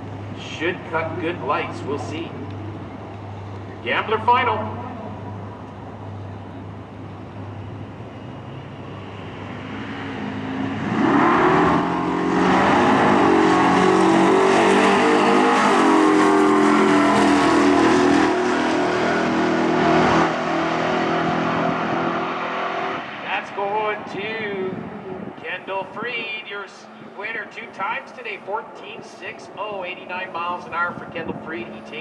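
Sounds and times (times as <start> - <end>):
truck engines revving at full throttle: 0.0 - 32.0.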